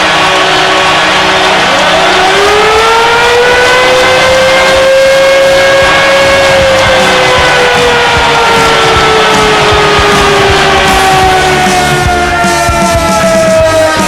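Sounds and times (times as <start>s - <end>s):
crowd cheering: 0.0s - 14.0s
goal horn blaring: 0.0s - 14.0s.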